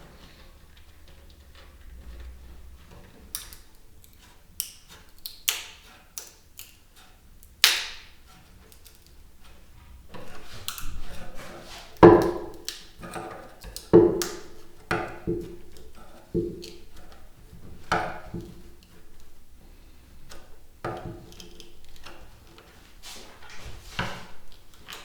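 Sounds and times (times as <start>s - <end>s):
scraping or rustling: 0.0s - 5.2s, 8.0s - 25.0s
tools and parts tapping and knocking: 0.2s - 25.0s.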